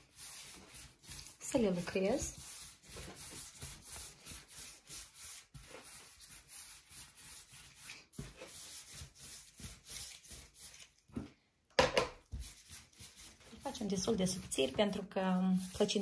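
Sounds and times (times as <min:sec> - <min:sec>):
dough rubbing on work surface: 0:00.0 - 0:11.0, 0:12.2 - 0:16.0.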